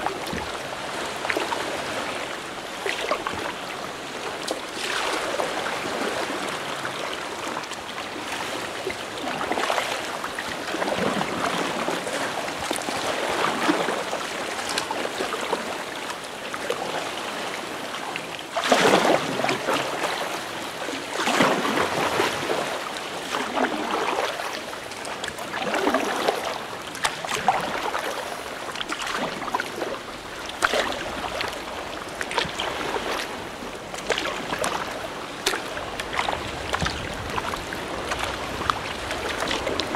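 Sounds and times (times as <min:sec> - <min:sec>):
sea water splashing against kayak: 0:00.0 - 0:39.9.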